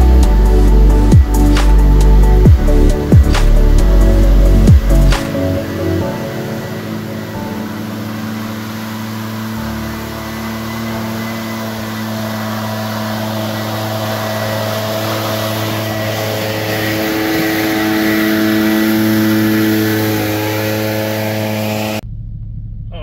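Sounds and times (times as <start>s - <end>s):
leaf blower engine drone: 0.0s - 22.0s.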